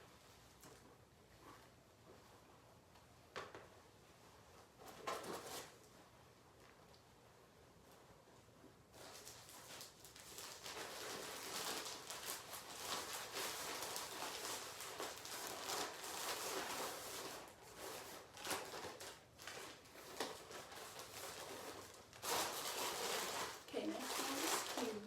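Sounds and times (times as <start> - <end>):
plastic bags rustling and crinkling: 3.5 - 25.0.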